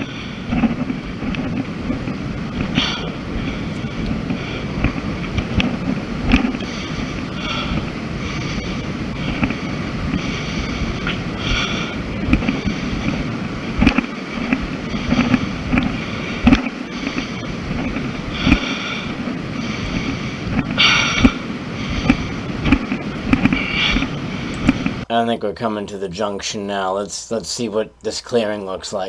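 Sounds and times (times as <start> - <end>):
footsteps on gravelly trail: 0.0 - 25.0
wind buffeting microphone: 0.0 - 25.1.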